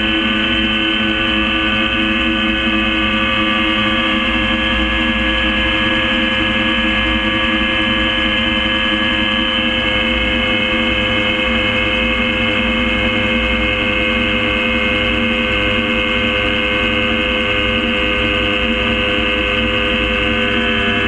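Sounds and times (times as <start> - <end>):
gyrocopter engine and propeller drone: 0.0 - 21.0.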